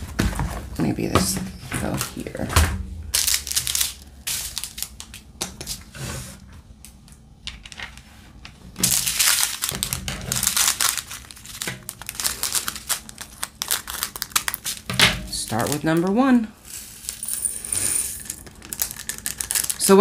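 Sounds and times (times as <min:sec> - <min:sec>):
plastic bags crinkling: 0:00.4 - 0:05.9, 0:08.7 - 0:20.0.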